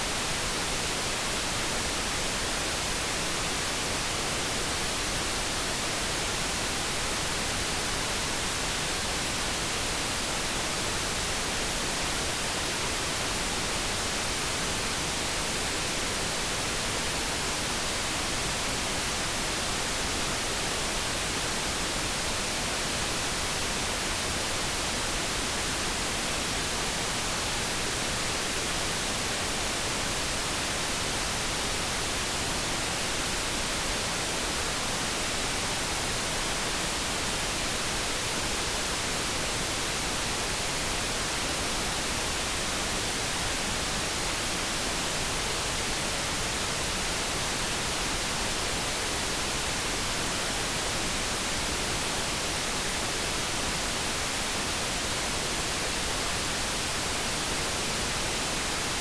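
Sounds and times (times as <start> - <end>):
steady hiss noise: 0.0 - 59.0.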